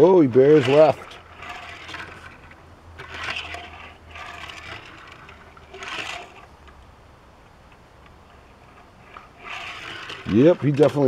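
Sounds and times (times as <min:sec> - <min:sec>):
toy truck rolling on plastic track: 0:00.0 - 0:06.5, 0:08.3 - 0:11.0.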